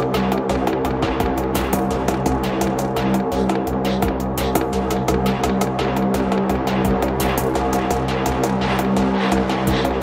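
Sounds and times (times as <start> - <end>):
low synth and bass notes: 0.0 - 10.0
rapid hi-hat ticks: 0.0 - 10.0.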